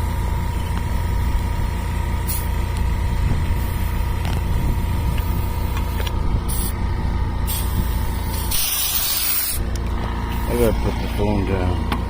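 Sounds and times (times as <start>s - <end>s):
engine low rumble: 0.0s - 12.0s
faint steady whine: 0.0s - 12.0s.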